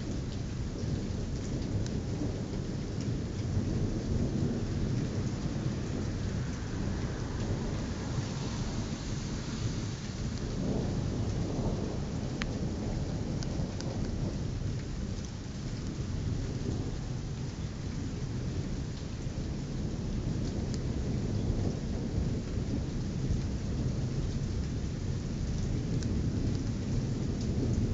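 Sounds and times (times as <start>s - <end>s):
heavy rain falling: 0.0s - 27.9s
low rumble of thunder: 0.0s - 27.9s.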